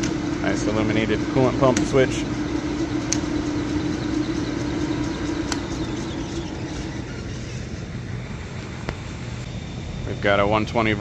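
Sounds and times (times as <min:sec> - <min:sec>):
electric motor hum: 0:00.0 - 0:10.4.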